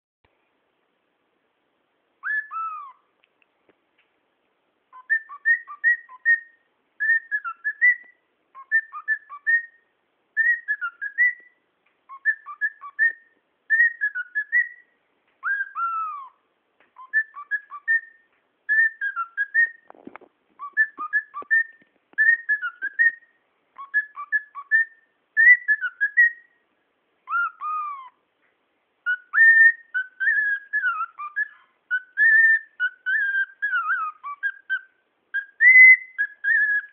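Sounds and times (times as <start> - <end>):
cockatiel whistling a tune: 2.2 - 3.0, 4.9 - 16.4, 17.0 - 19.9, 20.6 - 26.6, 27.2 - 28.2, 29.0 - 36.9.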